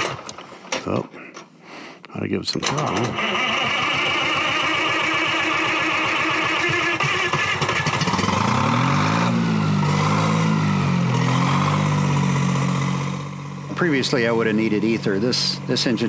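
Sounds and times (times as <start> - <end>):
diesel engine running and revving: 3.1 - 16.0.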